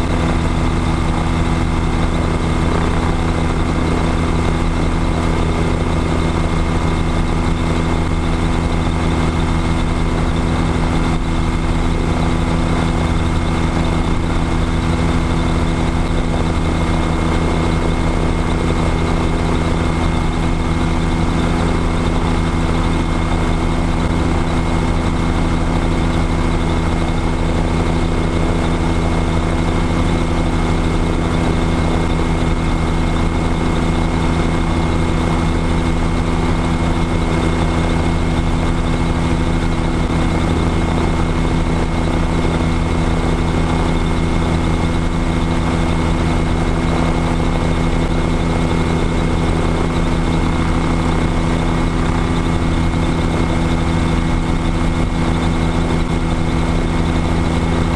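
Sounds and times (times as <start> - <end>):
airplane propeller engine droning: 0.0 - 57.9.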